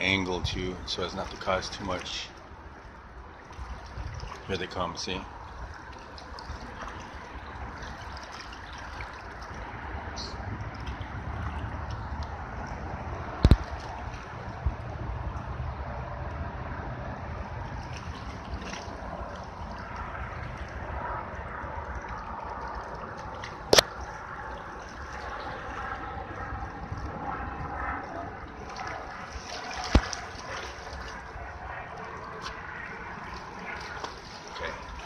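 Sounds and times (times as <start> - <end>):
river waves lapping on rocks: 0.0 - 15.4, 17.4 - 35.0.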